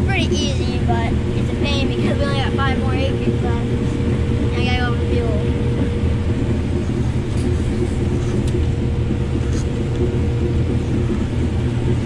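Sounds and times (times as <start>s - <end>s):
combine engine drone: 0.0s - 12.0s
constant machine whine: 0.0s - 12.0s.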